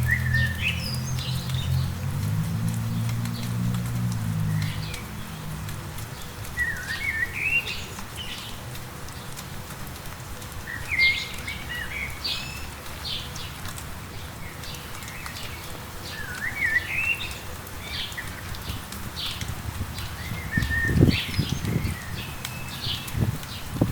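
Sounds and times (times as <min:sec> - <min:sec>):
songbird singing: 0:00.0 - 0:02.1, 0:04.4 - 0:08.6, 0:10.6 - 0:23.9
light rain hiss: 0:00.0 - 0:23.9.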